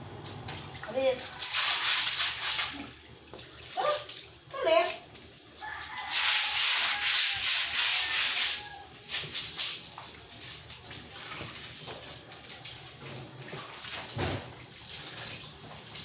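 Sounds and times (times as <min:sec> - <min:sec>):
stick broom scrubbing wet tiles: 0:00.8 - 0:16.0.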